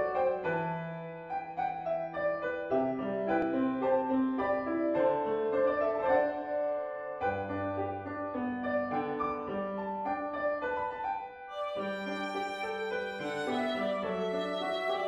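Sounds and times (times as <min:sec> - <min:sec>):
violin and piano melody: 0:02.5 - 0:15.0.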